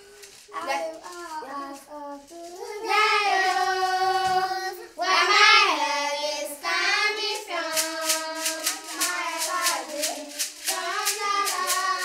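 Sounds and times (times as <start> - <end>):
child singing unaccompanied: 0.0 - 12.0.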